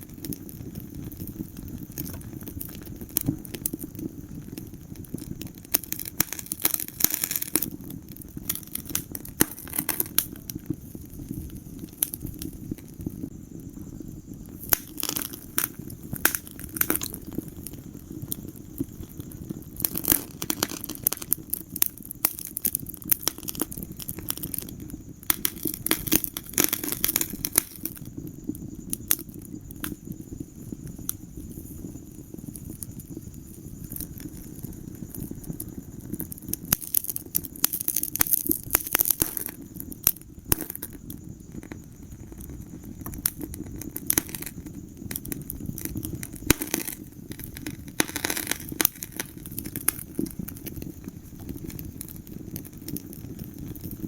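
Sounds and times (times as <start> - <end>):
low rumble of fire: 0.0 - 54.0
wood fire crackling: 0.0 - 54.0.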